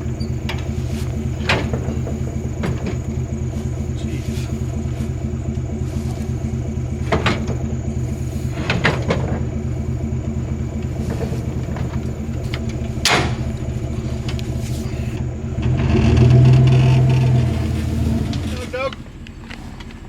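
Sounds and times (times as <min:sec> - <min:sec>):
backhoe engine running: 0:00.0 - 0:20.0.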